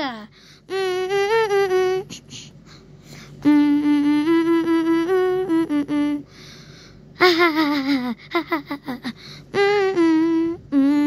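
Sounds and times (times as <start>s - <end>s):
child humming: 0.0s - 6.5s, 7.2s - 11.0s.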